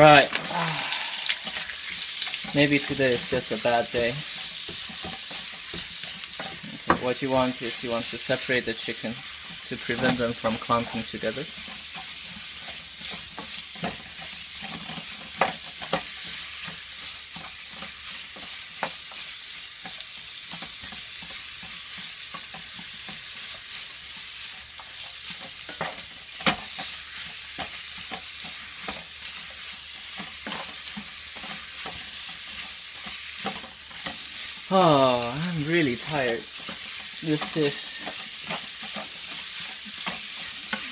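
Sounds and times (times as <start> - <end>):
chicken sizzling in a pan: 0.0 - 40.9
utensil scraping a pan: 1.2 - 34.7, 35.6 - 40.9.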